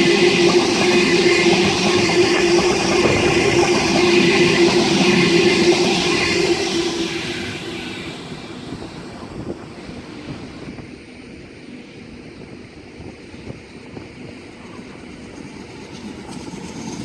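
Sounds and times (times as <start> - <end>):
passing train: 0.0 - 17.0.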